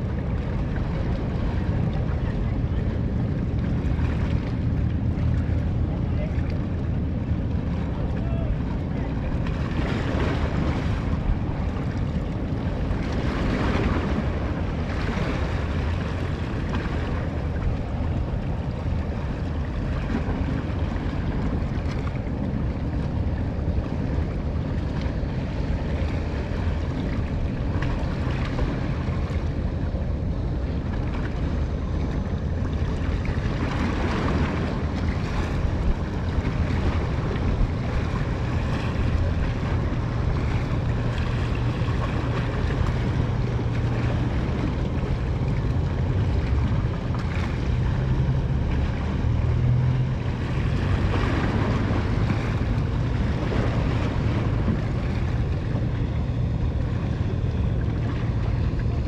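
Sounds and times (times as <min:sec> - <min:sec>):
low rumble: 0:00.0 - 0:59.0
waves washing: 0:00.0 - 0:59.0
wind buffeting microphone: 0:00.0 - 0:59.0.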